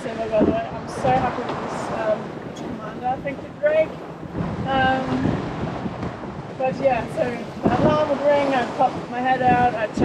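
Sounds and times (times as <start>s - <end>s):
sea washing around a boat: 0.0s - 10.0s
wind buffeting microphone: 0.0s - 10.0s.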